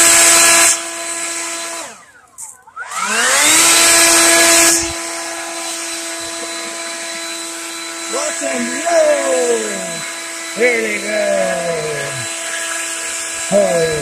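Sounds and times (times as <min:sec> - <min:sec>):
leaf blower whining and blowing: 0:00.0 - 0:14.0.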